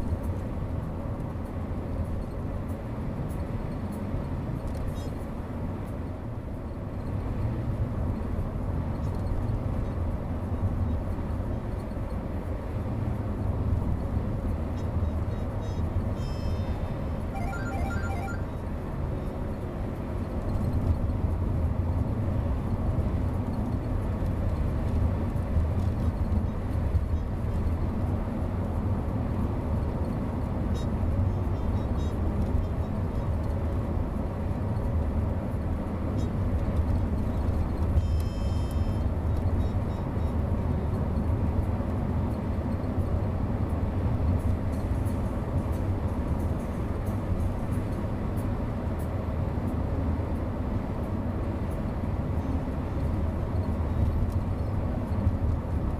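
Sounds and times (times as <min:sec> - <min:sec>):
car driving on road: 0:00.0 - 0:55.9.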